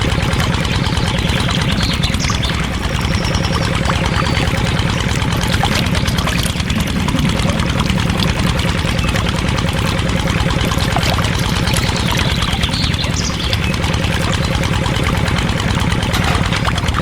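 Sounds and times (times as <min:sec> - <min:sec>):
small motor chugging: 0:00.0 - 0:17.0.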